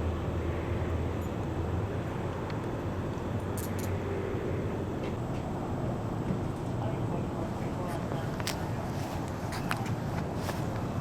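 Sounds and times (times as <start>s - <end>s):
motor vehicle rumbling: 0.0s - 11.0s.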